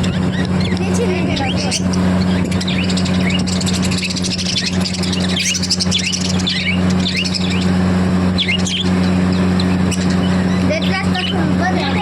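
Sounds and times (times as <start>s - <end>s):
small parrots chirping: 0.0s - 11.5s
steady low hum: 0.0s - 12.0s.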